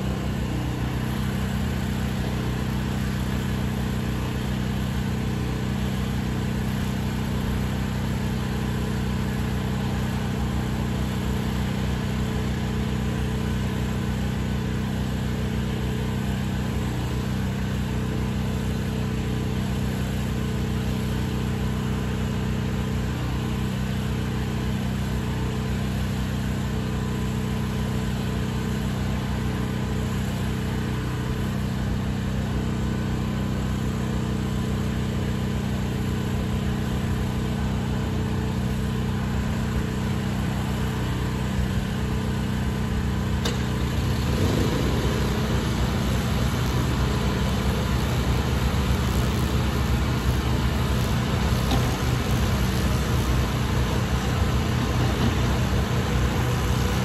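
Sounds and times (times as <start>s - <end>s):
pressure washer engine drone: 0.0s - 57.0s.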